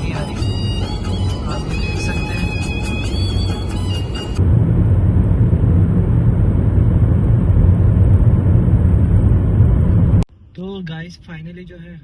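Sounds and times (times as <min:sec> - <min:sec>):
car tyres and engine rumble: 0:00.0 - 0:12.0.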